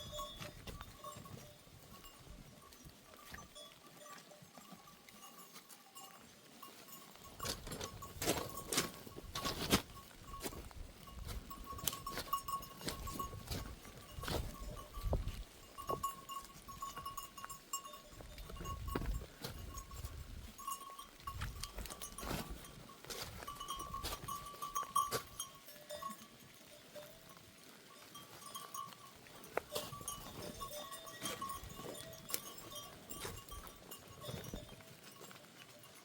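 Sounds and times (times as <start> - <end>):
livestock bell ringing: 0.0 - 36.0.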